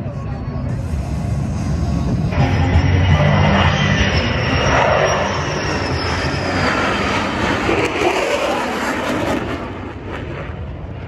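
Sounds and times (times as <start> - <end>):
aircraft engine flying past: 0.0 - 11.0.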